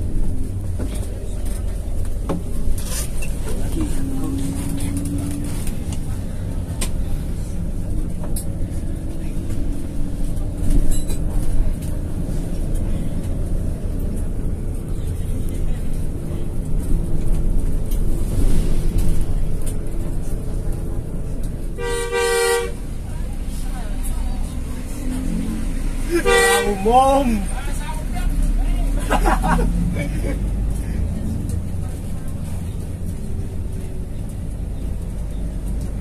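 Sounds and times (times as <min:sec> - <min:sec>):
coach engine and road noise: 0:00.0 - 0:36.0.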